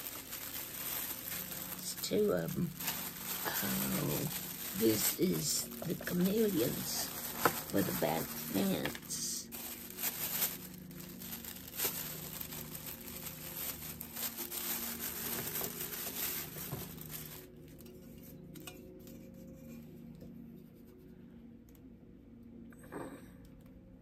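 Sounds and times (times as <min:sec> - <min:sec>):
packaging crinkling and tearing: 0:00.0 - 0:19.7.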